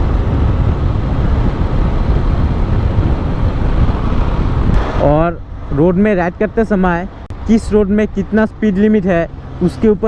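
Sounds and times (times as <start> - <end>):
motorcycle running: 0.0 - 10.0
road noise: 0.0 - 10.0
wind rushing over microphone: 0.0 - 10.0.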